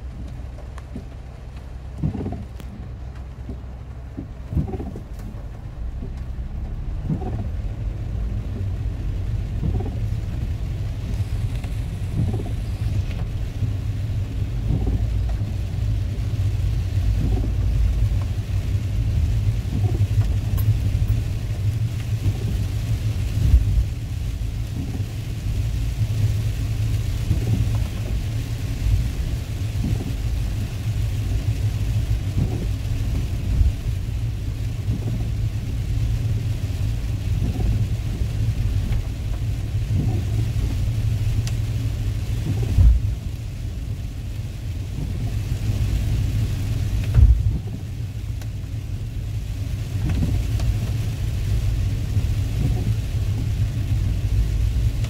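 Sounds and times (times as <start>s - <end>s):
rain hissing: 0.0s - 55.0s
road and engine rumble: 0.0s - 55.0s
windshield wipers sweeping: 0.0s - 55.0s.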